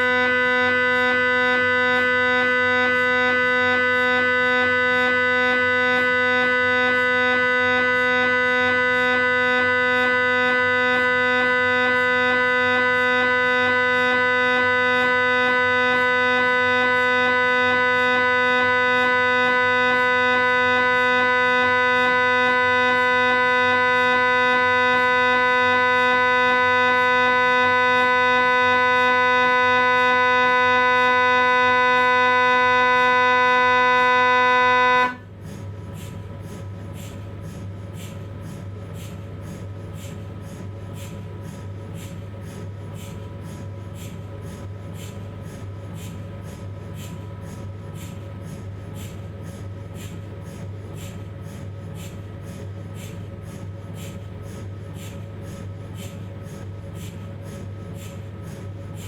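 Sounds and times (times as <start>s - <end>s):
mri scanner buzzing drone: 0.0s - 59.0s.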